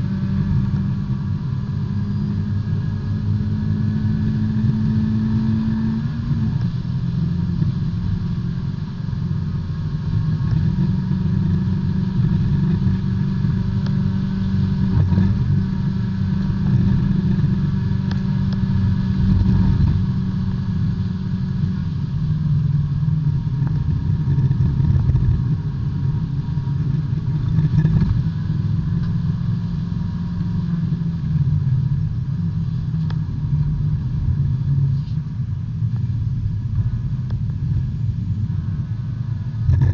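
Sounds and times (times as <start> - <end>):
race car engine from inside: 0.0 - 39.9.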